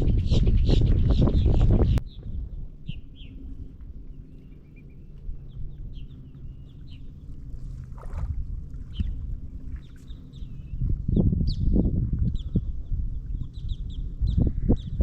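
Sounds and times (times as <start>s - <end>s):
birds chirping: 0.0s - 8.0s, 8.6s - 15.0s
boat motor humming: 0.0s - 15.0s.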